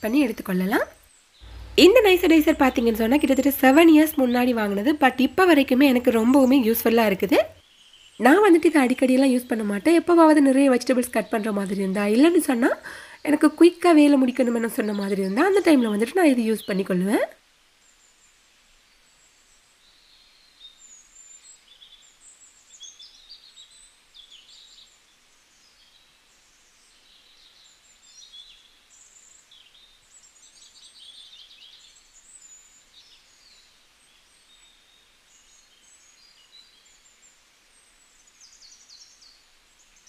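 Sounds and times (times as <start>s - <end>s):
faint birdsong: 0.0s - 40.0s.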